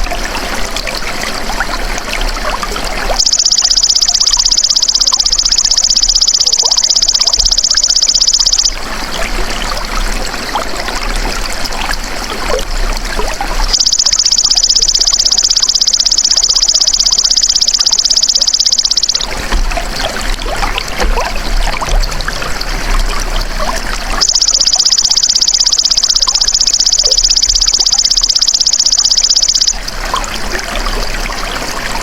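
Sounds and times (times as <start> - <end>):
babbling water: 0.0 - 32.0.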